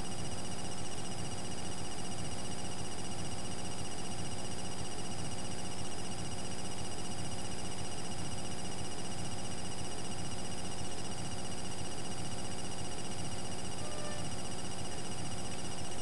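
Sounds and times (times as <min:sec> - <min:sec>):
electronic buzz and hum: 0:00.0 - 0:16.0.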